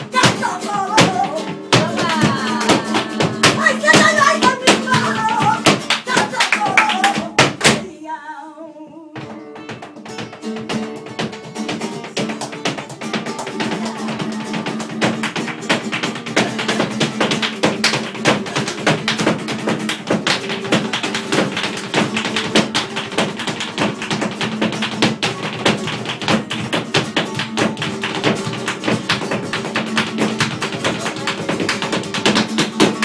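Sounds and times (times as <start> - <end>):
hand-clapping: 0.0 - 7.8, 9.6 - 33.0
rapid dance footwork taps: 0.0 - 7.8, 9.2 - 33.0
flamenco guitar: 0.0 - 33.0.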